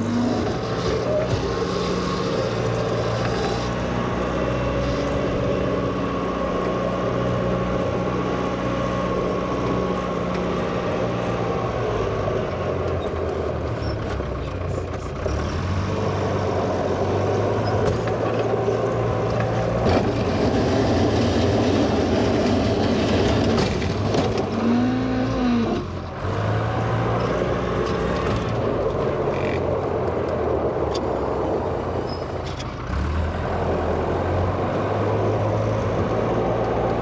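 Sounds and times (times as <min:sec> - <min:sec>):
wheel loader engine revving: 0:00.0 - 0:37.0.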